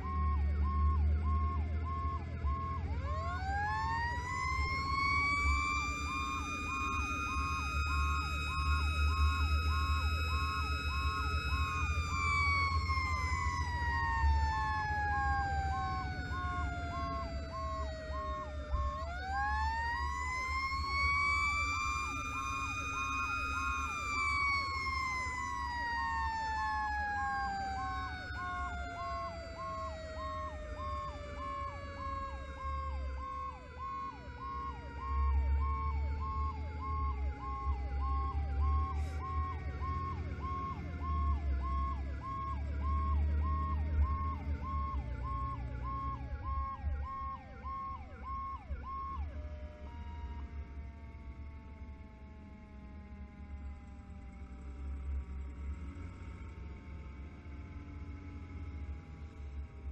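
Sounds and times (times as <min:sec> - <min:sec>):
engine and road rumble: 0:00.0 - 0:59.9
siren short falling tone: 0:00.0 - 0:59.9
siren winding up and down: 0:00.0 - 0:59.9.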